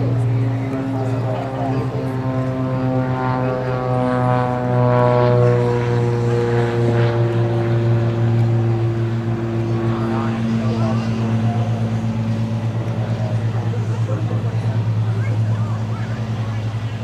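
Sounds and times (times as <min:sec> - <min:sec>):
loud engine drone: 0:00.0 - 0:17.0.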